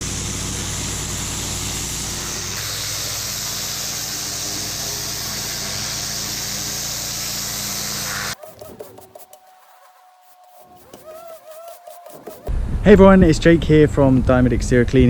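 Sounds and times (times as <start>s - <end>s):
high-pressure water jet hissing: 0.0s - 12.5s
pressure washer engine running: 0.0s - 12.5s.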